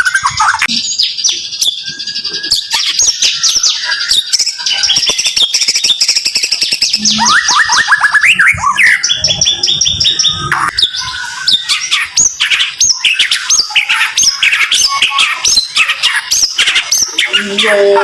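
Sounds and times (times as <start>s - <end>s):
bird singing rapid phrases: 0.0s - 18.0s
upward whistled bird notes: 0.0s - 18.0s.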